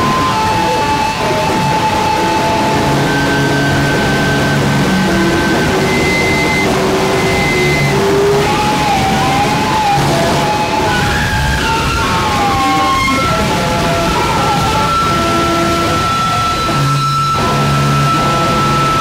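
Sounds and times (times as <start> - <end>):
distorted electric guitar noise: 0.0 - 19.0
long held tones: 0.0 - 19.0.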